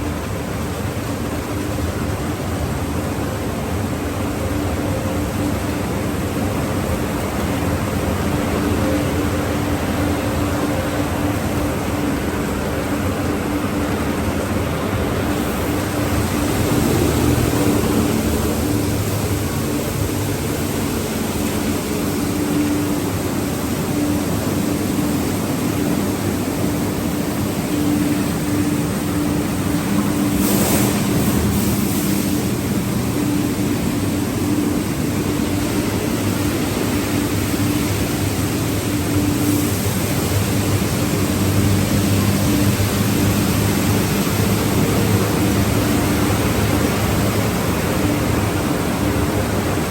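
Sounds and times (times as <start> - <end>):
car wash spraying water: 0.0 - 49.9.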